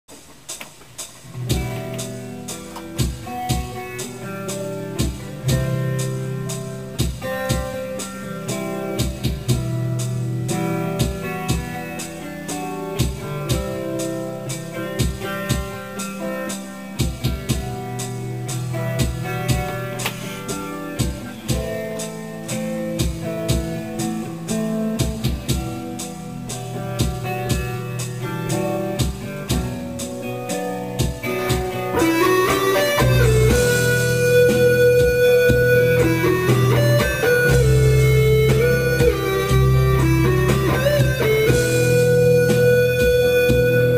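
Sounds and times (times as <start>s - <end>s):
band music with guitar and drums: 0.1s - 43.9s.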